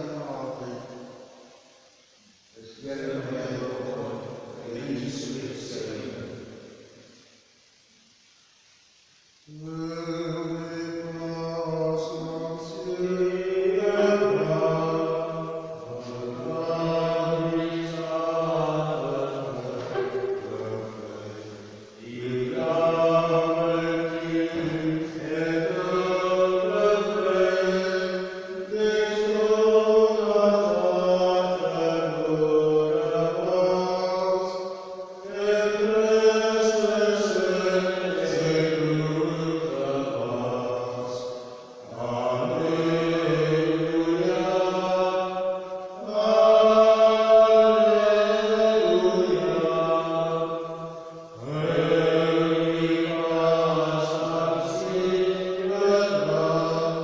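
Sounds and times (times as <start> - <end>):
man chanting slow melody: 0.0 - 1.0, 2.5 - 6.5, 9.4 - 57.0.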